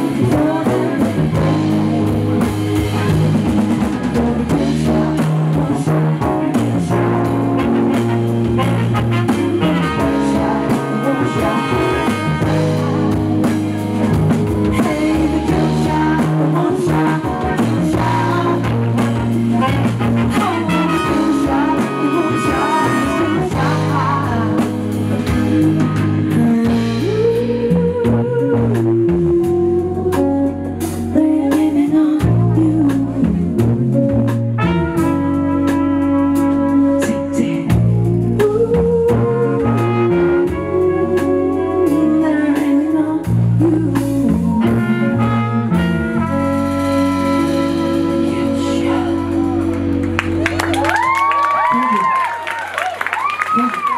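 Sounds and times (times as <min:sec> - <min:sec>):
woman singing: 0:00.0 - 0:02.2, 0:03.8 - 0:13.6, 0:14.6 - 0:34.1, 0:36.7 - 0:52.2
horns: 0:00.0 - 0:26.7, 0:33.4 - 0:38.6, 0:39.2 - 0:53.9
drums: 0:00.0 - 0:53.9
guitar: 0:00.0 - 0:53.9.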